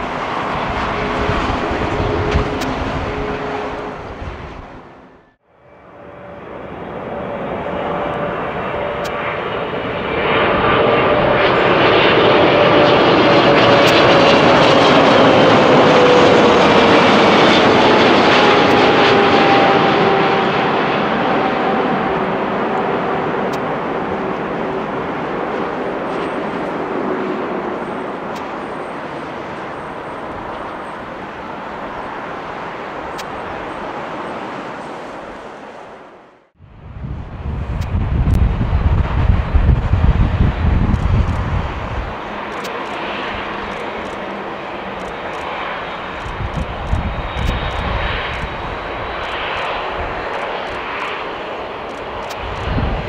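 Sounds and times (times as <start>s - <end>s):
airliner engine roar: 0.0s - 53.0s.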